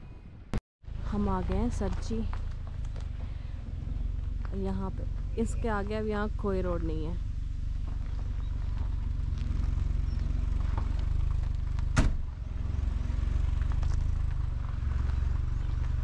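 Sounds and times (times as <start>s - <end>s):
car engine idling: 0.9s - 16.0s.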